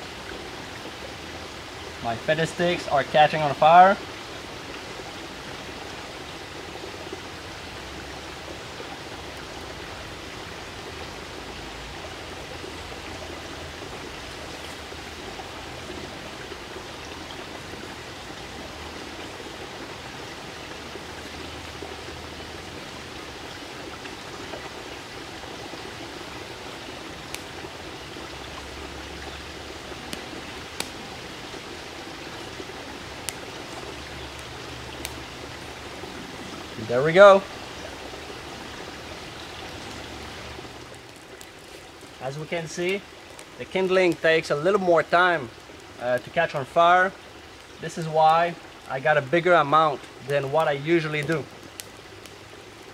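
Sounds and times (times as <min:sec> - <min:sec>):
creek water rushing and trickling: 0:00.0 - 0:52.9.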